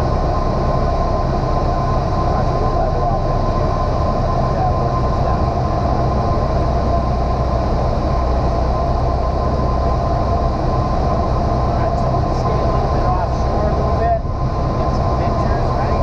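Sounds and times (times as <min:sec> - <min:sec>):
airplane engine and propeller droning: 0:00.0 - 0:16.0.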